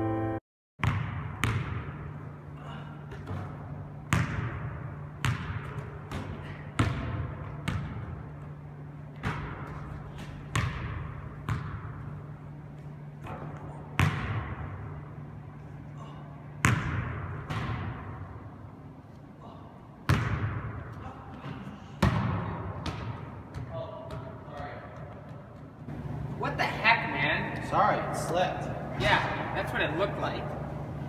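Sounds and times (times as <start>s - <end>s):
steady low hum: 1.1s - 31.0s.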